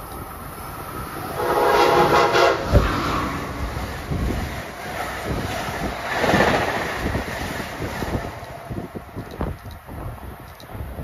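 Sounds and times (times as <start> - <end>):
train wheels rumbling on rails: 0.0 - 11.0
wind buffeting microphone: 0.0 - 11.0.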